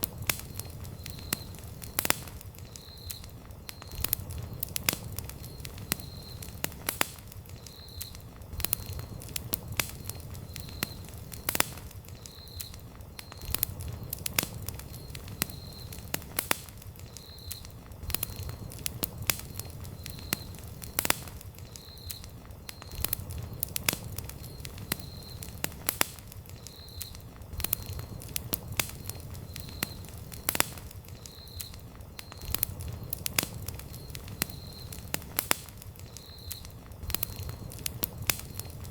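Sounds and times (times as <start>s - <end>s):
campfire crackling and popping: 0.0s - 38.9s
low rumble of flames: 0.0s - 38.9s.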